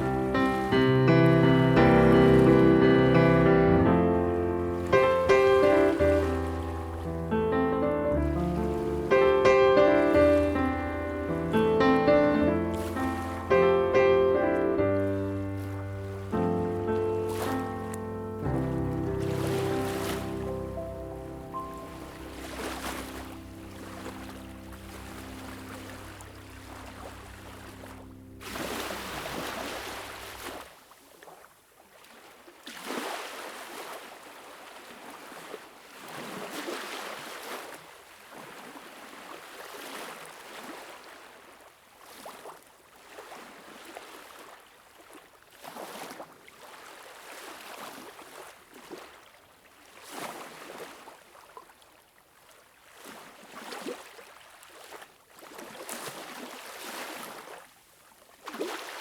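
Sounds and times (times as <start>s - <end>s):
water lapping and splashing: 0.0s - 59.0s.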